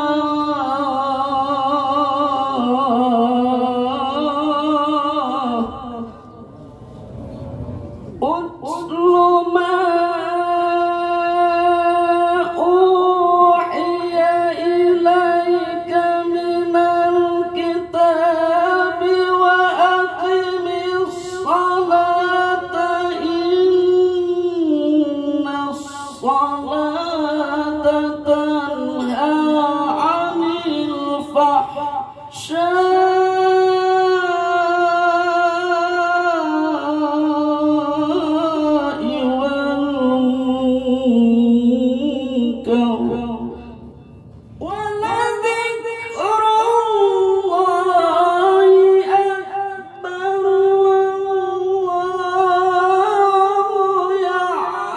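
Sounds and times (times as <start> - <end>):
man reciting melodically: 0.0 - 6.8, 7.6 - 54.9.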